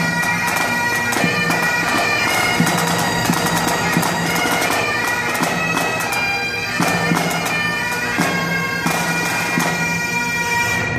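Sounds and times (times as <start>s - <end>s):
bagpipes playing: 0.0s - 10.9s.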